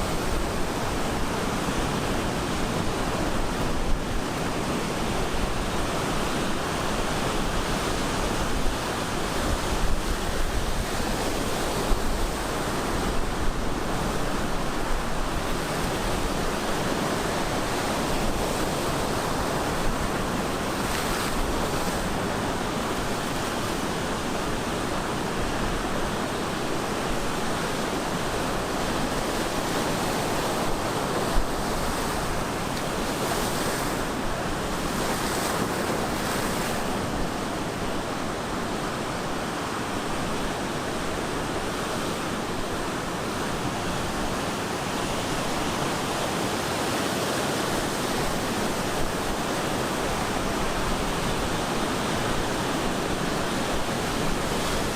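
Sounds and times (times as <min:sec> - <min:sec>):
waves washing on beach: 0:00.0 - 0:54.9
wind on microphone: 0:00.0 - 0:54.9.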